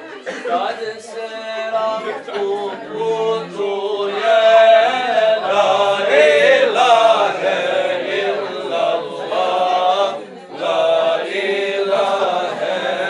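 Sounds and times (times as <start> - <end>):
men chanting devotional song: 0.5 - 13.0.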